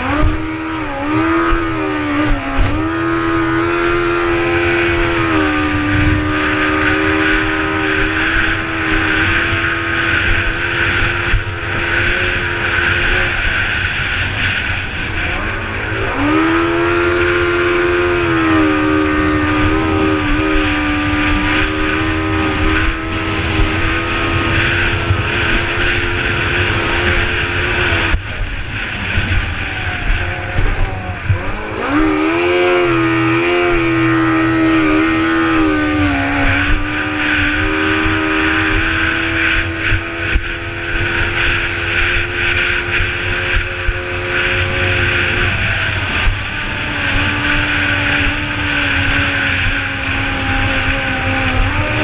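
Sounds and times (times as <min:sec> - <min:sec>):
boat engine running hard: 0:00.0 - 0:52.0
rush of wind and water: 0:00.0 - 0:52.0.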